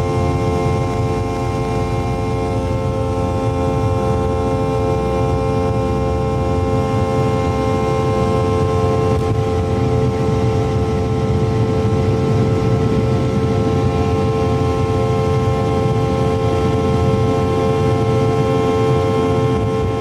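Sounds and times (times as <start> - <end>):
jet engines droning: 0.0 - 20.0.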